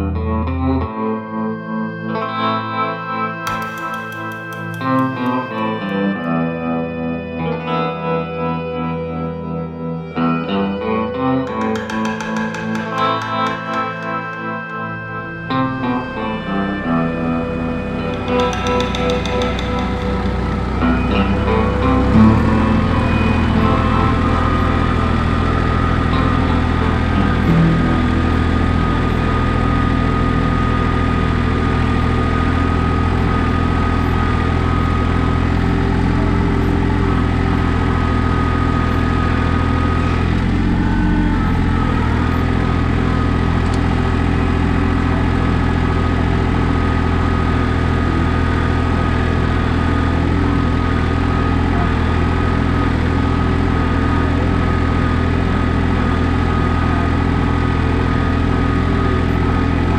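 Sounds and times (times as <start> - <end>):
tractor diesel engine running: 11.8 - 59.9.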